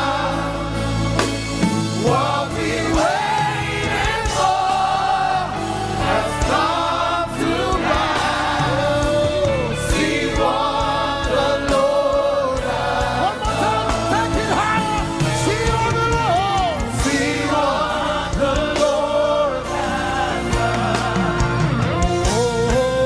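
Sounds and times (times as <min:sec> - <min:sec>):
band playing: 0:00.0 - 0:23.0
steady drum beat: 0:00.0 - 0:23.0
voices singing together: 0:00.0 - 0:23.0.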